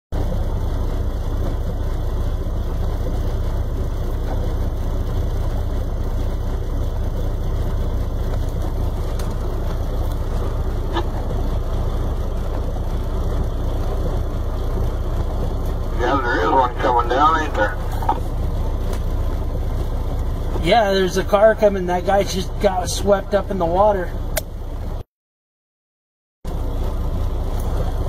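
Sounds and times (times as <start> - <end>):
vehicle engines idling: 0.1 - 25.0, 26.5 - 28.0.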